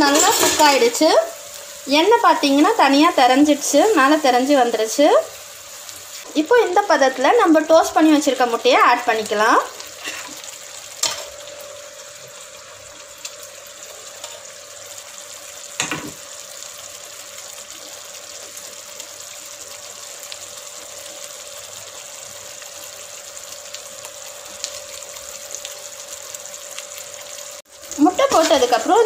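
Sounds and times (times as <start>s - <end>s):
gravy simmering and sizzling: 0.0s - 29.0s.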